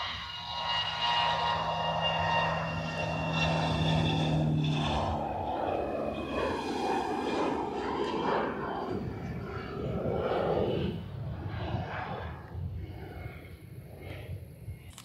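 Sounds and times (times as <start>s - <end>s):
jet engines rushing at takeoff: 0.0s - 15.0s.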